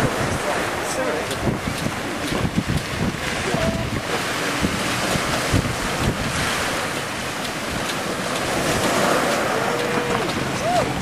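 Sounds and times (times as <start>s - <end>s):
choppy waves rushing: 0.0s - 11.0s
wind buffeting microphone: 0.0s - 11.0s.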